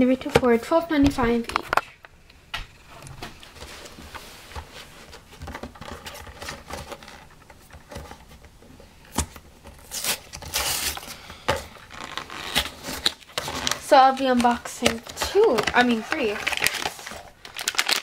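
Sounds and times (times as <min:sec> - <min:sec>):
cardboard scraping: 0:02.9 - 0:18.0.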